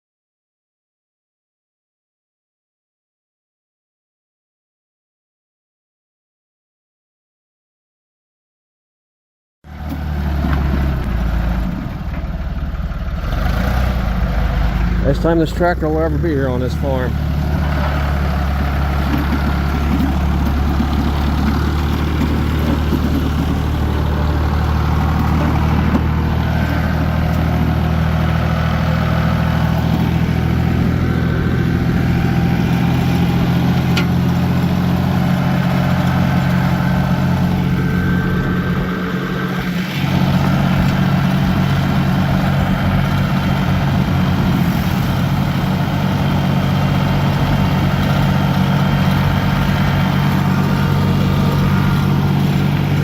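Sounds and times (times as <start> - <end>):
diesel tractor engine running: 9.7 - 53.0.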